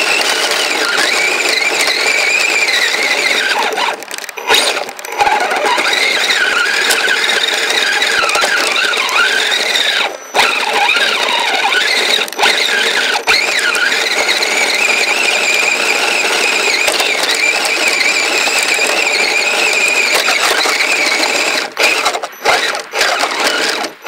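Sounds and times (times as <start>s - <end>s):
electric motor and chain whining: 0.0s - 24.0s.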